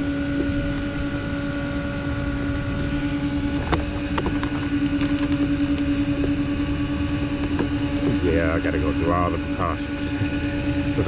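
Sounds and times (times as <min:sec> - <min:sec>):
mechanical motor hum: 0:00.0 - 0:11.0
wind rumble on microphone: 0:00.0 - 0:11.0.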